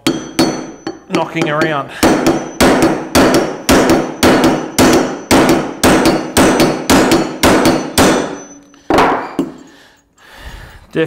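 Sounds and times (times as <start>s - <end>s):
hammer striking chisel on metal: 0.0s - 9.7s.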